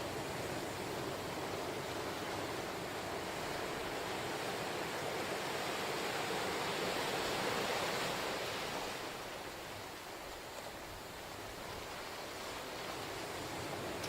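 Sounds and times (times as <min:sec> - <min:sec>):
ocean surf washing on shore: 0:00.0 - 0:14.0.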